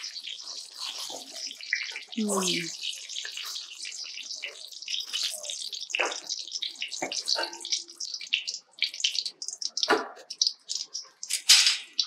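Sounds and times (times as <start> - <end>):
tomatoes deep-frying in hot oil: 0.0 - 12.0.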